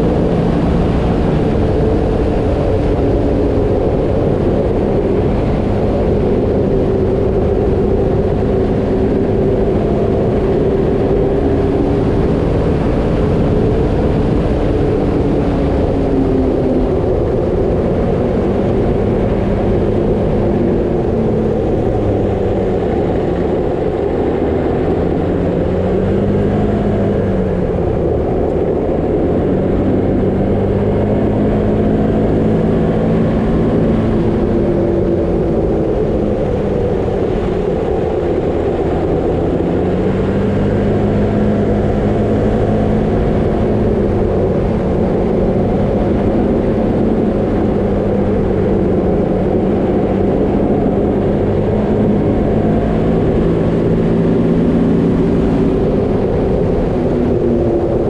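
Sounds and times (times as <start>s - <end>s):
tyres rumbling on dirt road: 0.0s - 58.0s
vehicle engine humming: 0.0s - 58.0s.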